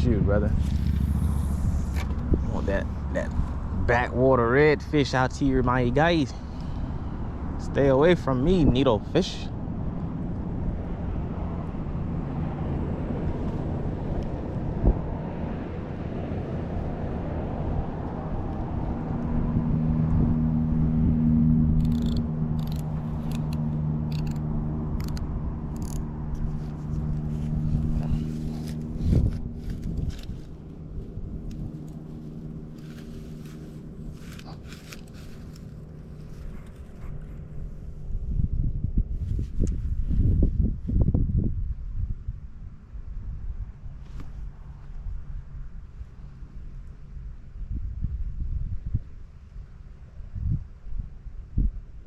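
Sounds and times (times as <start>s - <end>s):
wind on microphone: 0.0s - 4.5s, 8.4s - 33.4s, 36.2s - 45.3s, 47.3s - 52.0s
road traffic rumble: 0.0s - 48.1s
vehicle engine hum: 0.0s - 50.3s.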